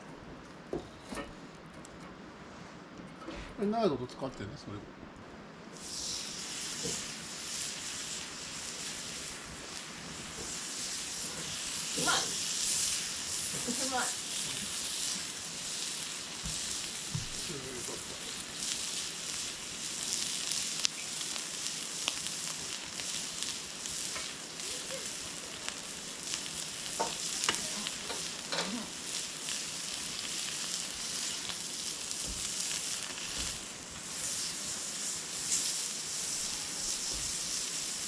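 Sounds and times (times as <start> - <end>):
beef sizzling on griddle: 5.7 - 38.0.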